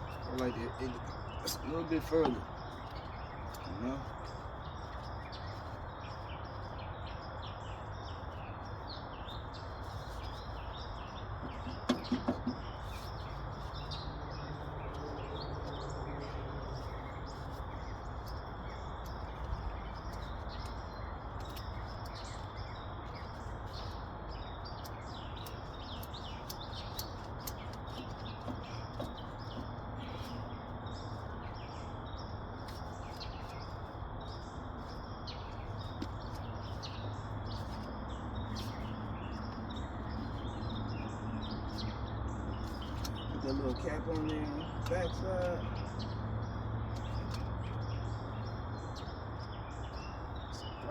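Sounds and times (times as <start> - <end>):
outdoor background noise: 0.0 - 50.9
small birds chirping: 0.0 - 50.9.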